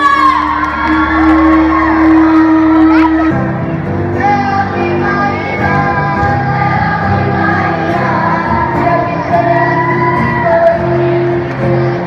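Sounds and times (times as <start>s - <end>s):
choir singing long held notes: 0.0s - 12.0s.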